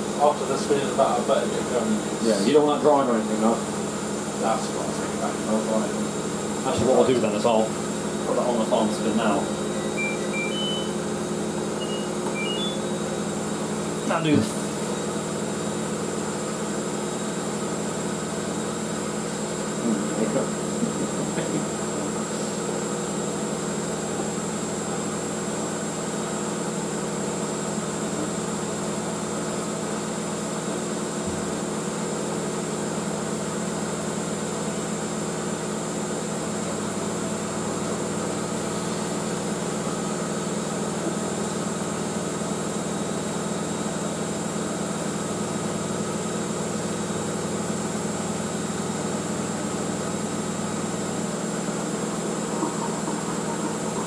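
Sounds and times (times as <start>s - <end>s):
washing machine motor humming: 0.0s - 54.0s.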